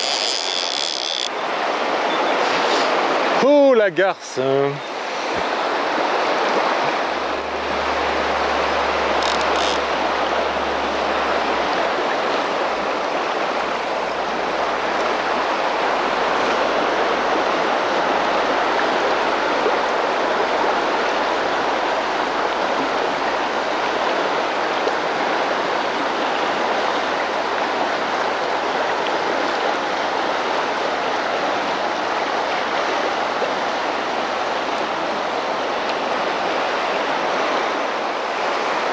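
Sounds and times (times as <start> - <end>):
river rushing over riffle: 0.0 - 38.9.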